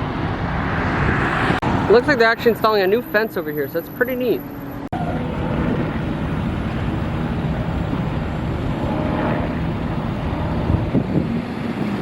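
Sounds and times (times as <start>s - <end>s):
low engine hum: 0.0s - 12.0s
road traffic rumble: 0.0s - 12.0s.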